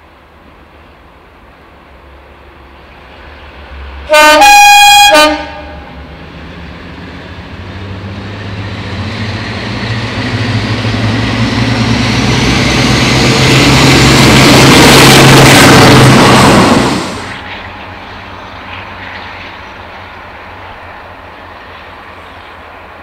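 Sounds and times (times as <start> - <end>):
diesel locomotive approaching: 0.0 - 23.0.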